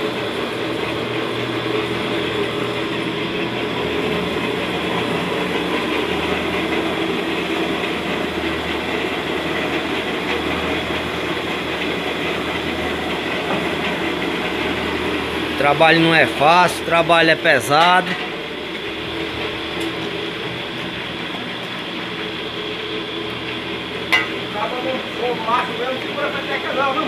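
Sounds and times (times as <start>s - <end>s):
motorised stirrer humming: 0.0s - 27.0s.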